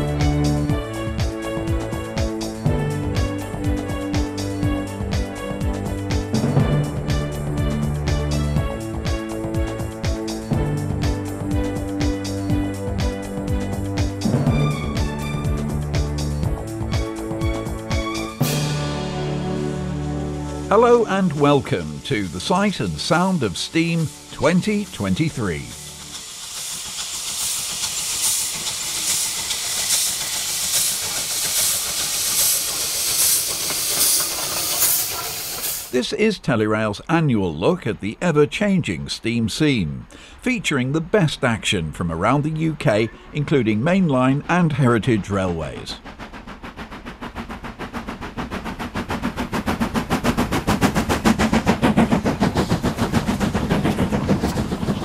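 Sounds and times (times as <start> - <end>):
locomotive exhaust beats: 0.0 - 36.0, 40.0 - 55.0
steam locomotive hissing: 0.0 - 36.0, 42.2 - 55.0.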